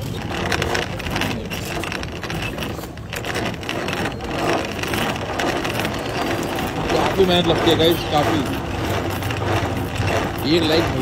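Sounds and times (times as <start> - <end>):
hand-cranked blender churning: 0.0 - 11.0.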